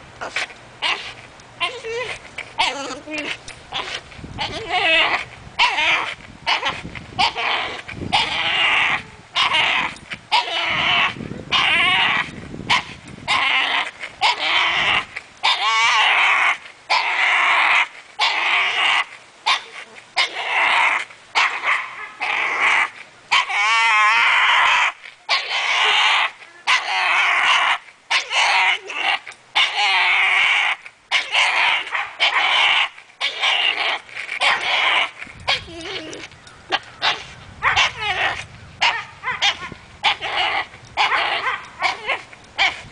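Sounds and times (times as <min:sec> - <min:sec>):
dog making strained sounds: 0:00.2 - 0:42.9.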